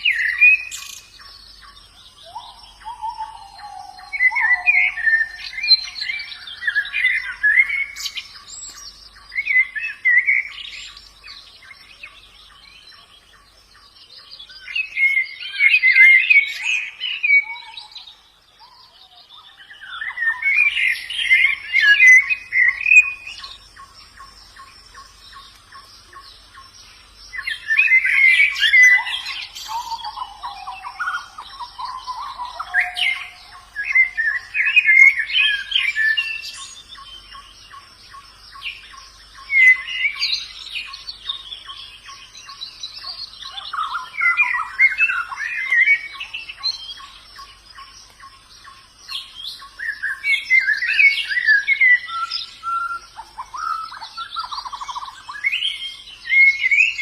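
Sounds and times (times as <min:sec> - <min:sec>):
birds twittering: 0:00.0 - 0:57.0.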